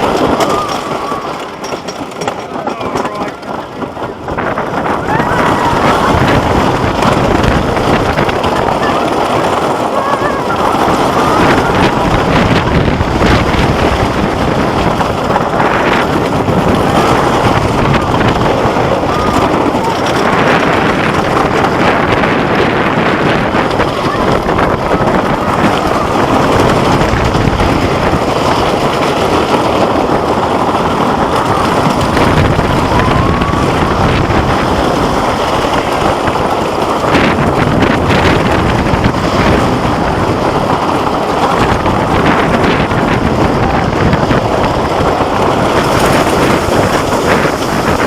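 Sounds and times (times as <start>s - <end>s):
roller coaster rumbling on wooden track: 0.0s - 48.0s
sharp clatters: 0.0s - 48.0s
wind rushing over microphone: 0.0s - 48.0s.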